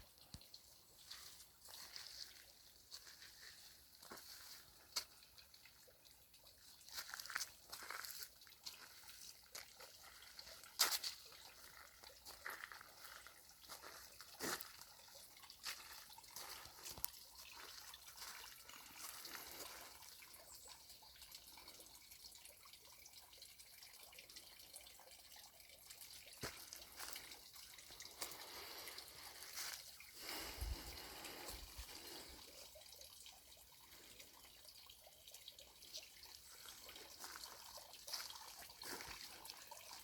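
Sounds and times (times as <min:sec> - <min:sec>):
water trickling and dripping: 0:00.0 - 0:40.0.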